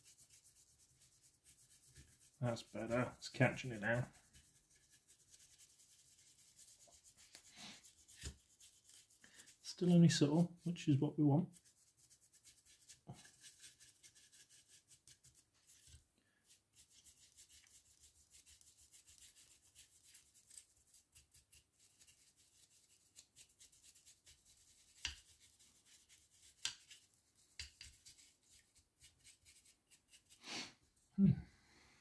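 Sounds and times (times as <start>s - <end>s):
dry brush scratching plastic: 0.0s - 30.6s.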